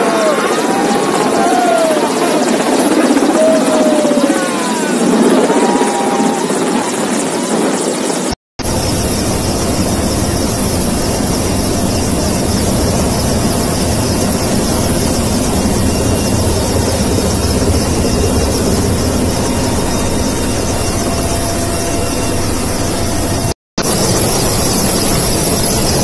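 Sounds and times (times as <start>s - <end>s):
turbine whine: 0.0s - 7.2s, 8.6s - 26.0s
helicopter rotor noise: 0.0s - 26.0s.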